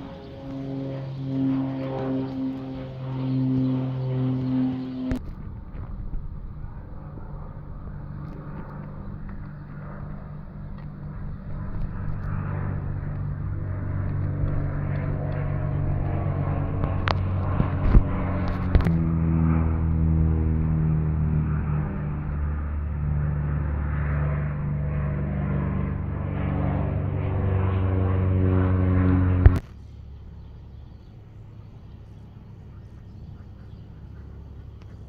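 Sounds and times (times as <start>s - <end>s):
propeller airplane engine drone: 0.0s - 35.0s.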